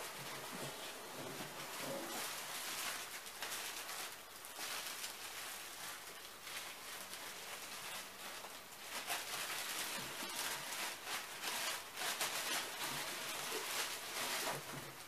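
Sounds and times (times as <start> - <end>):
plastic bag rustling and crinkling: 0.0 - 15.0.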